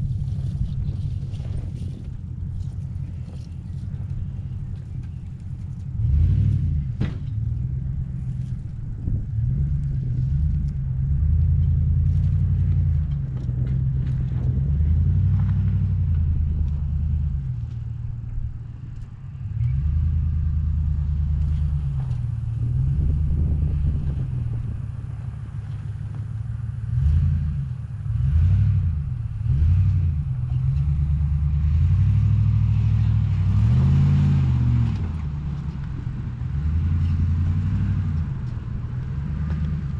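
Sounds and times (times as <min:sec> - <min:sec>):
engine revving under load: 0:05.8 - 0:17.8, 0:19.3 - 0:39.9.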